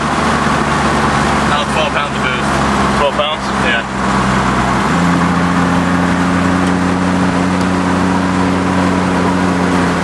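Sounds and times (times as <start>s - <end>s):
engine droning from inside cab: 0.0s - 10.0s.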